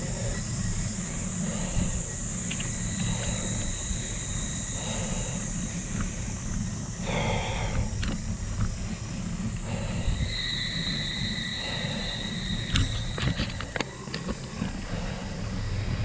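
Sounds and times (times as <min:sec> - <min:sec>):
thin high whine: 0:00.0 - 0:16.0
wind buffeting microphone: 0:00.0 - 0:16.0
run of clicks: 0:00.8 - 0:15.6.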